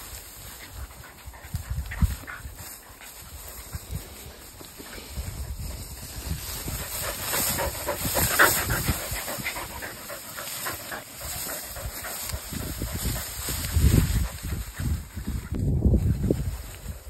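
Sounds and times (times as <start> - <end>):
dogs panting: 0.0 - 15.6
dogs rustling through tall grass: 0.0 - 17.0.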